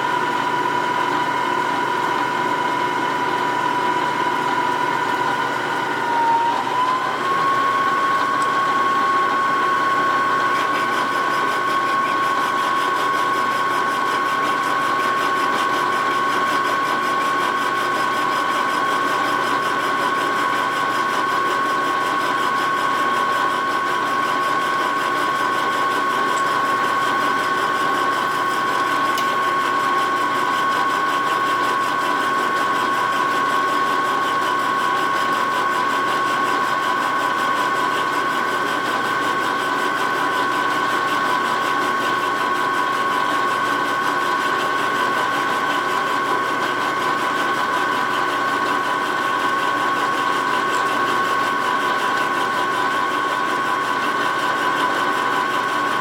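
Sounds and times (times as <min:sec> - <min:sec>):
milling machine whine: 0:00.0 - 0:56.0.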